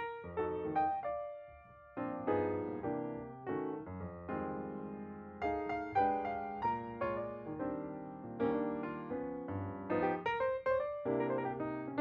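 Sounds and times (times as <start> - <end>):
gentle piano tune: 0.0 - 12.0.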